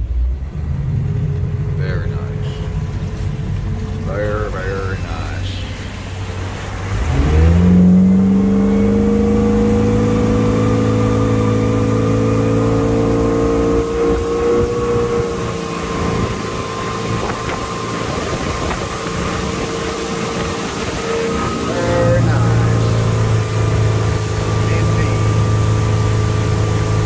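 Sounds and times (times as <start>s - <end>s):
boat engine running: 0.0s - 27.0s
rush of wind and water: 0.0s - 27.0s.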